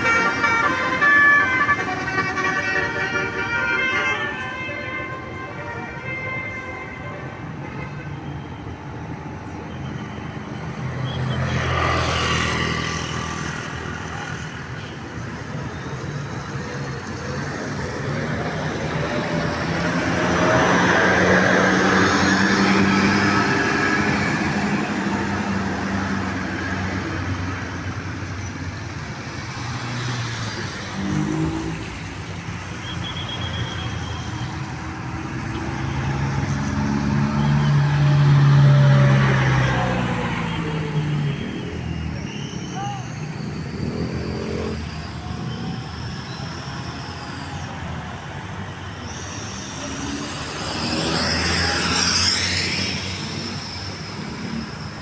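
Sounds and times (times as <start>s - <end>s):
vehicles driving past: 0.0s - 55.0s.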